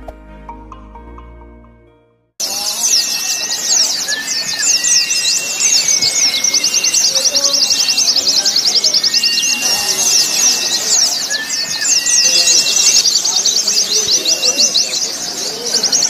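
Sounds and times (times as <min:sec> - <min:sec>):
high twittering birdsong: 0:02.4 - 0:16.0
whistled bird notes: 0:02.4 - 0:16.0.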